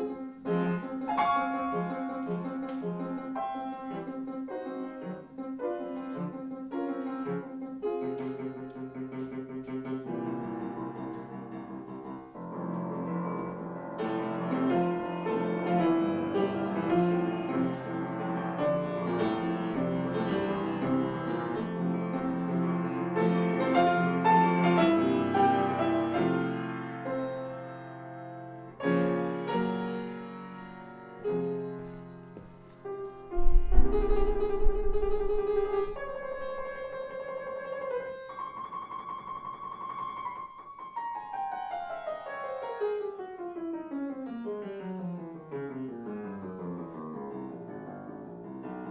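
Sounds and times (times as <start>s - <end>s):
classical piano music: 0.0s - 48.9s.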